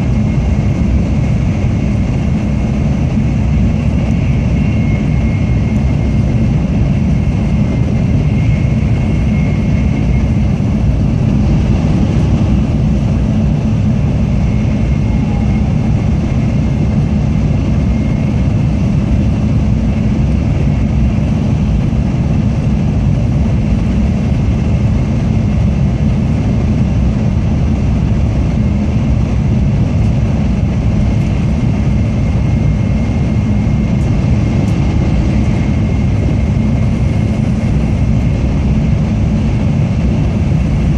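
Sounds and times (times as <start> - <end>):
train rumble inside cabin: 0.0 - 40.9.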